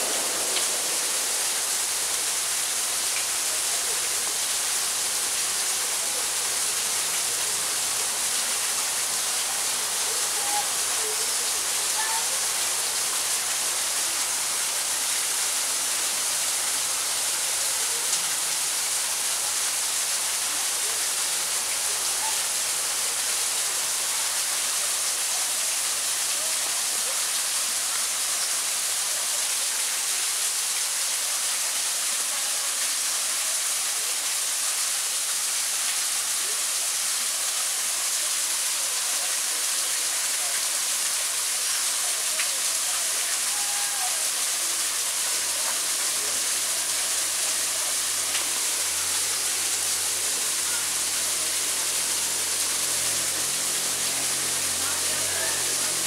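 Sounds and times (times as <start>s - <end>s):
waterfall pouring into pond: 0.0s - 56.0s.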